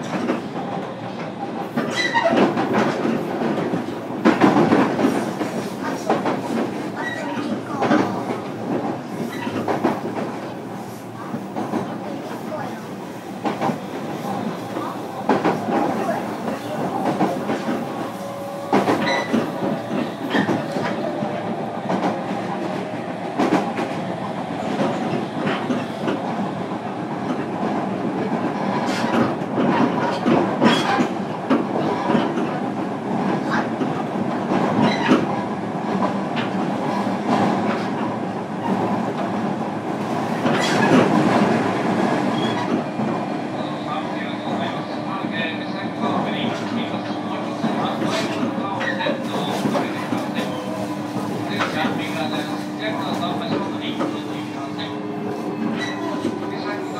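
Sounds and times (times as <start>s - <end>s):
train rolling rumble: 0.0s - 56.9s.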